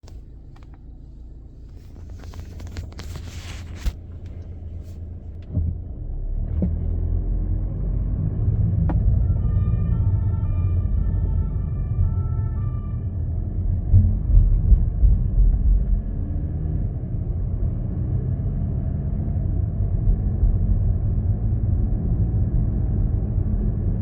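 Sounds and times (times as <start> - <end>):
diesel car driving rumble: 0.0 - 24.0.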